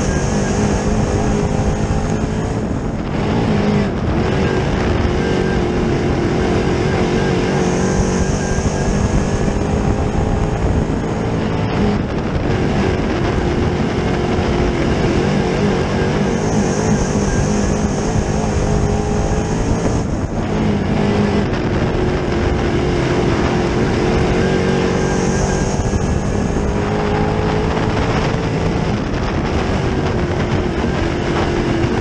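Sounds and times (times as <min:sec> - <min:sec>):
race car engine running hard: 0:00.0 - 0:32.0.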